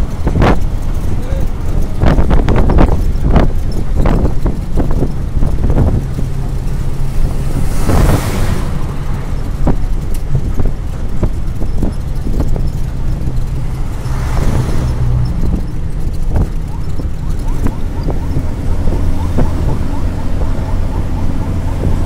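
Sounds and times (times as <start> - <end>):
engine and tyre road drone: 0.0 - 22.0.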